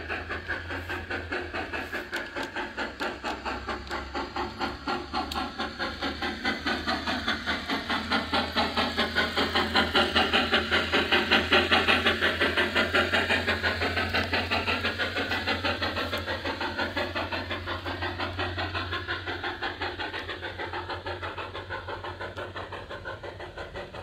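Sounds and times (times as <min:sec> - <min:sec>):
model steam locomotive chuffing: 0:00.0 - 0:24.0.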